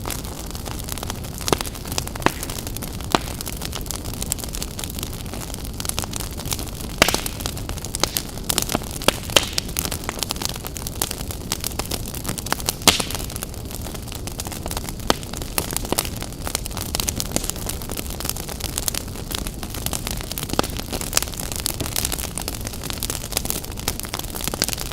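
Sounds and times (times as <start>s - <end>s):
campfire crackling and popping: 0.0s - 24.9s.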